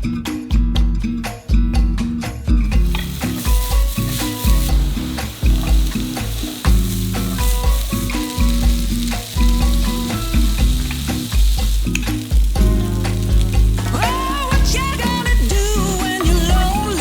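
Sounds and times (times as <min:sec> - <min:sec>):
background music with bass: 0:00.0 - 0:17.0
stirring in a pan: 0:02.8 - 0:16.6
food sizzling in a pan: 0:02.8 - 0:17.0.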